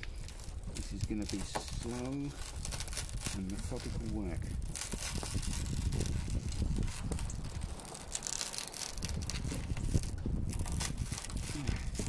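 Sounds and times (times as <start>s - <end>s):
adhesive strip tearing away: 0.0s - 12.0s.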